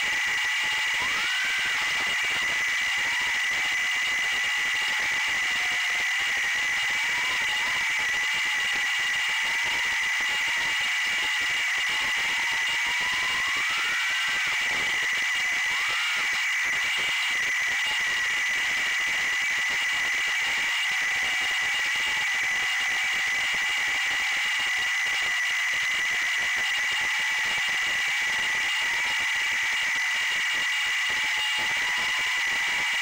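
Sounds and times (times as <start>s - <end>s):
quadcopter motors whirring: 0.0s - 33.0s.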